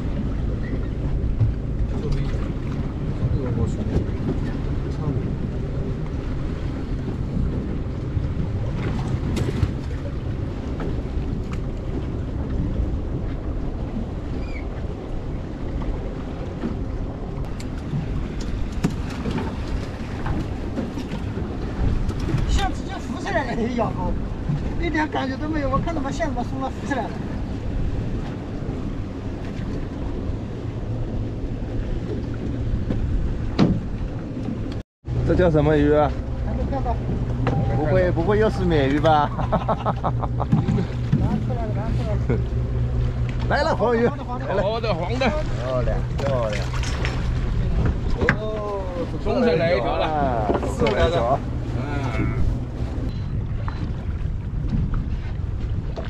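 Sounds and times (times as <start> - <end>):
low steady hum: 0.0 - 56.0
sea and boat noise: 0.0 - 56.0
wind rumble on microphone: 0.0 - 56.0.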